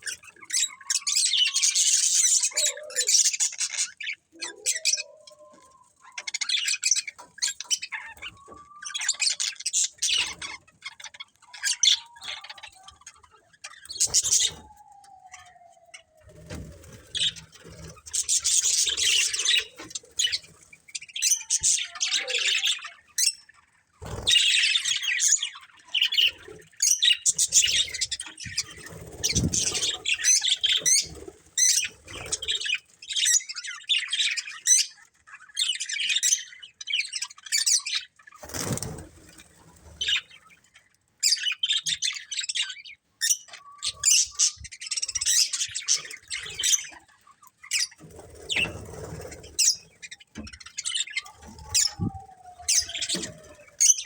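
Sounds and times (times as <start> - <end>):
budgerigars chirping: 6.1 - 14.7, 15.9 - 39.4, 40.0 - 40.5, 41.2 - 54.0.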